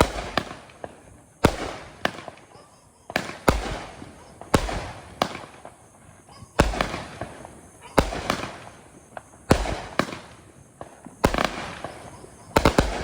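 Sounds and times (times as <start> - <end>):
fireworks cake firing: 0.0 - 13.0.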